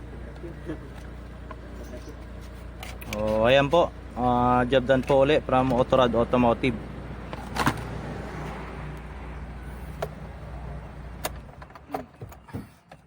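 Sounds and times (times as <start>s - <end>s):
car engine idling: 0.0s - 12.5s.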